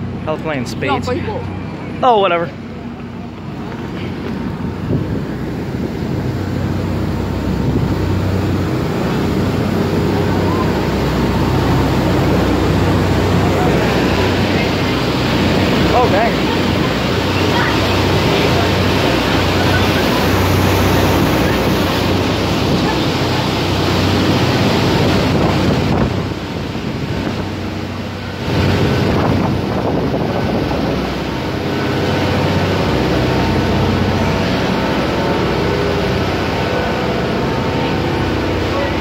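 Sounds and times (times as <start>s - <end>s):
boat engine humming: 0.0s - 39.0s
water rushing in boat wake: 0.0s - 39.0s
wind buffeting microphone: 2.6s - 39.0s.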